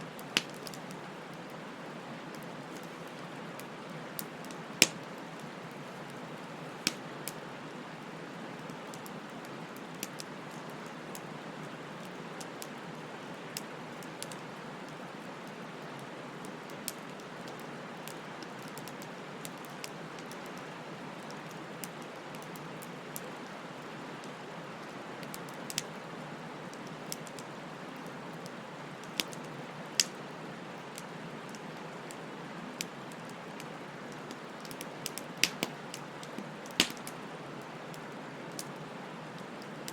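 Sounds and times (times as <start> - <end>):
bonfire hissing: 0.0 - 39.9
burning wood crackling and popping: 0.1 - 1.6, 2.2 - 39.9.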